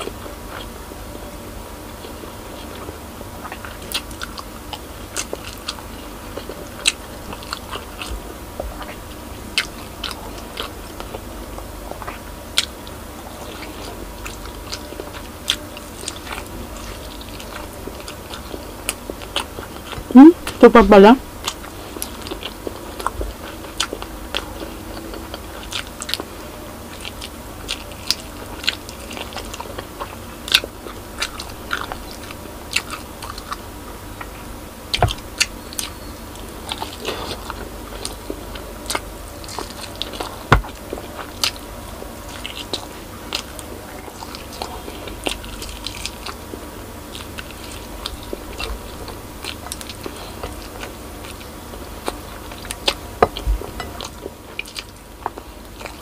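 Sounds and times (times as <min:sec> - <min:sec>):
chewing and biting ribs: 0:01.7 - 0:20.6, 0:21.3 - 0:56.0.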